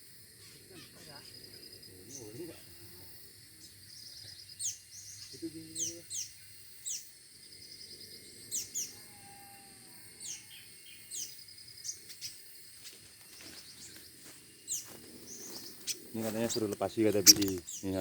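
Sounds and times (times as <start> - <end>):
small songbird chirping: 0.0 - 18.0.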